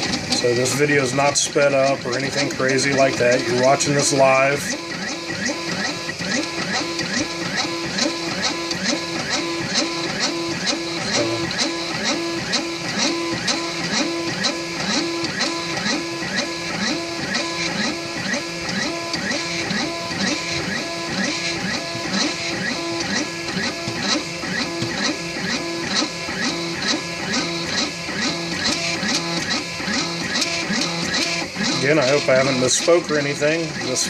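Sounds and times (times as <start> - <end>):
stepper motors whining: 0.0 - 34.0.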